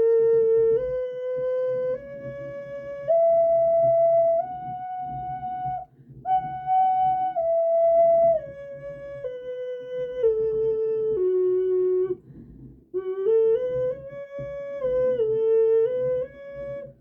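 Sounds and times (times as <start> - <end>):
ocarina playing slow notes: 0.0 - 17.0.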